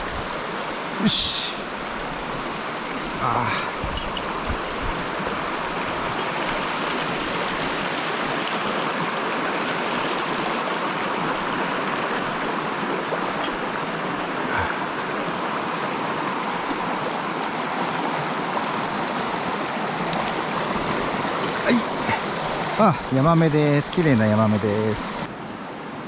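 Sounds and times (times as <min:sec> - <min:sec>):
stream rushing over rocks: 0:00.0 - 0:25.3.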